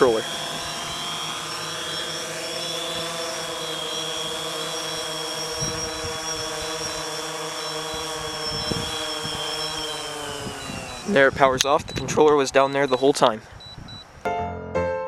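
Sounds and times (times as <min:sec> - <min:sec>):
drone propellers whining: 0:00.0 - 0:14.2.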